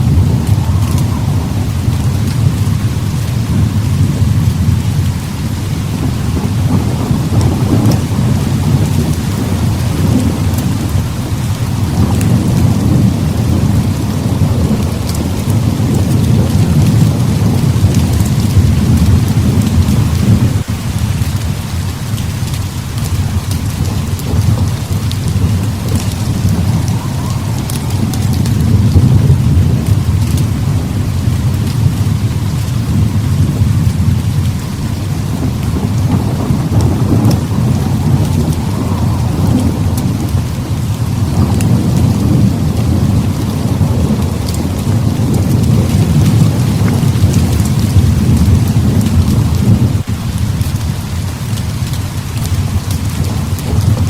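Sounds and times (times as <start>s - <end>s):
heavy rain: 0.0s - 54.0s
thunder rumbling: 0.0s - 54.0s.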